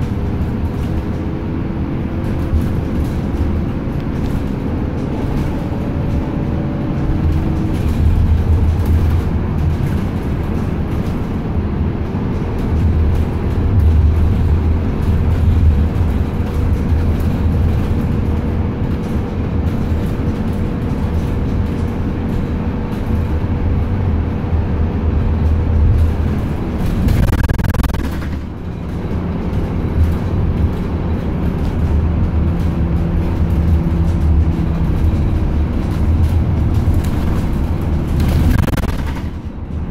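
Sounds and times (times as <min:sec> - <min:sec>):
bus road rumble: 0:00.0 - 0:39.9
engine hum: 0:00.0 - 0:39.9.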